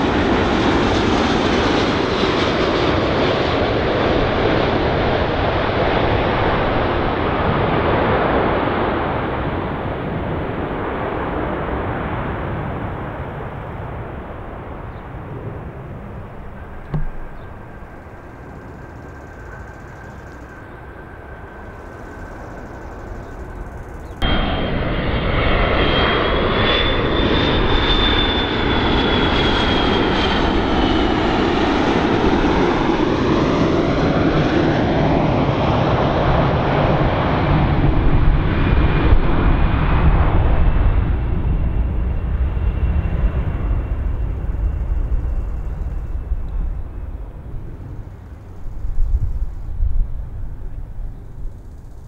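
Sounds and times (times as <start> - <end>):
jet engine roar with whine: 0.0 - 52.0.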